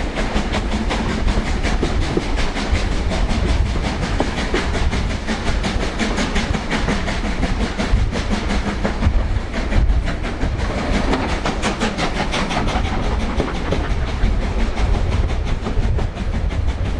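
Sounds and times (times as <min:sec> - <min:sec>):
train rumbling with rhythmic beat: 0:00.0 - 0:16.9.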